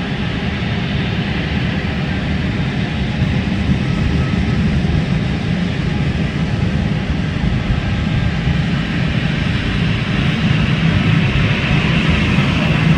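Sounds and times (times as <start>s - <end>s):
jet engines running at low power: 0.0s - 12.9s.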